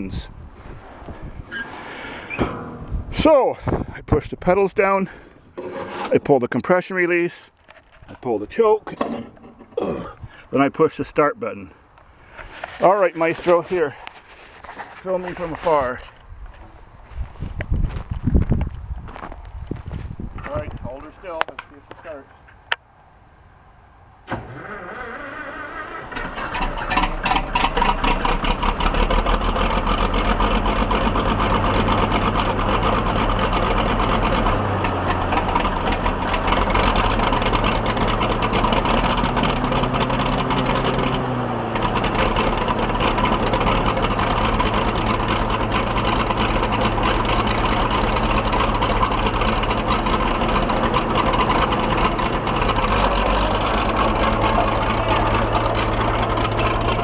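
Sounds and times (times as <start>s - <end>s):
bulldozer engine starting and running: 0.0s - 57.0s.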